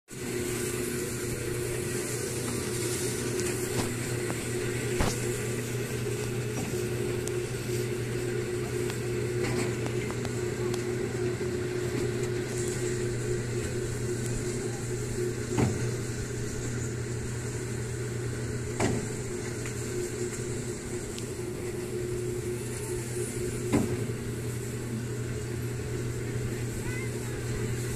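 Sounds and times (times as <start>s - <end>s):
ride car motor hum: 0.1s - 27.9s.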